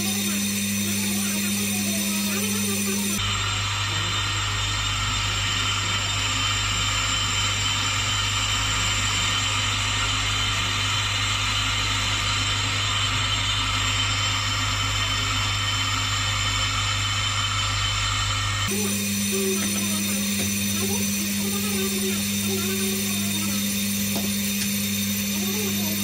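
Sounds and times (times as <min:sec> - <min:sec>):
brake lathe hum and whine: 0:00.0 - 0:26.0.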